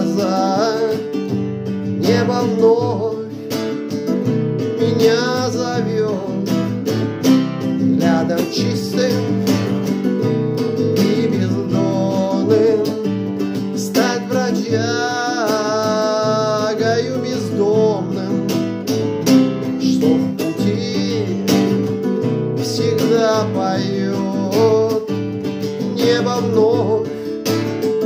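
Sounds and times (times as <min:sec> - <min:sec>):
classical guitar strummed chords: 0:00.0 - 0:28.0
man singing: 0:00.0 - 0:28.0.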